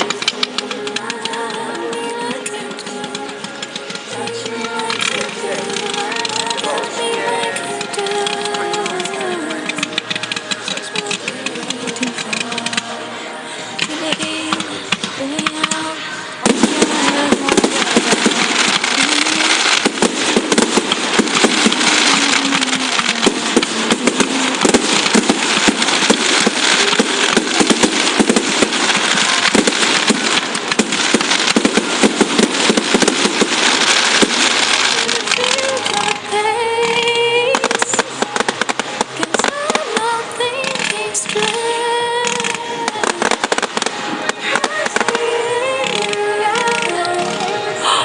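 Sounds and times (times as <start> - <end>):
fireworks crackling bangs: 0.0 - 48.0.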